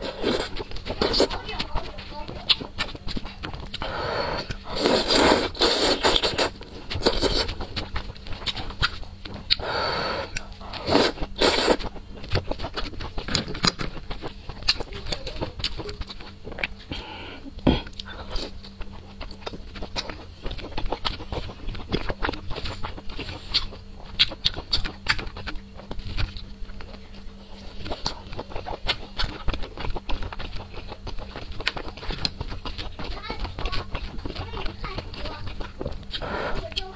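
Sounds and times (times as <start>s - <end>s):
close chewing with mouth clicks: 0.0s - 36.9s.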